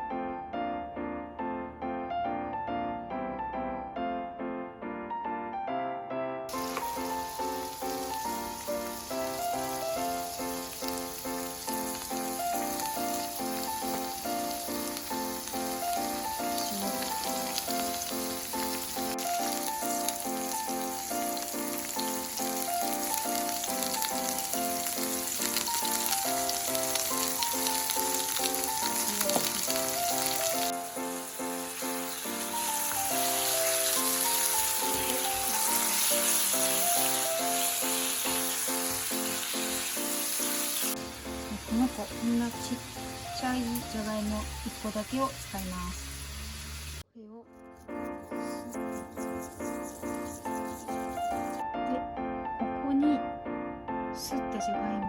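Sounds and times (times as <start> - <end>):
light piano music: 0.0 - 55.0
food sizzling in a pan: 6.5 - 47.1, 47.8 - 51.7.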